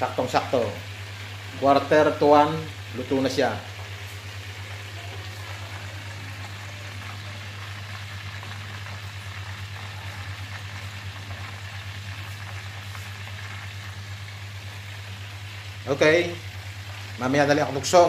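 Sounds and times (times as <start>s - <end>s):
oil sizzling and crackling: 0.0s - 18.0s.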